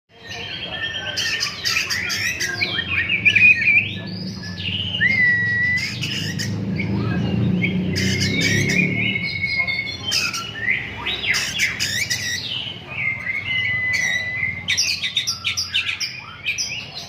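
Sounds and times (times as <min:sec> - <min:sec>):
songbird singing: 0:00.1 - 0:17.0.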